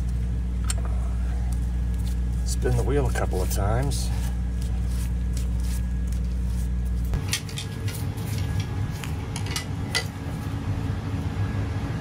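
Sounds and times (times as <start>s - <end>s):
brake rotor spinning rumble: 0.0s - 12.0s.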